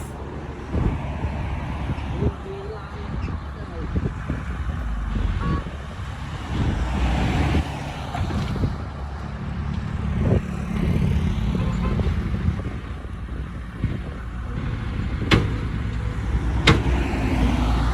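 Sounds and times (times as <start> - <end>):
heavy diesel engine under load: 0.0 - 17.9.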